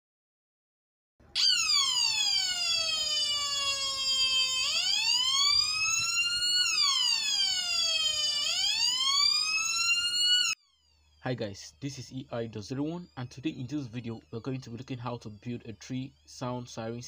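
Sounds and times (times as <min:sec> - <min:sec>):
buzzy electronic siren wailing: 0:01.3 - 0:16.4.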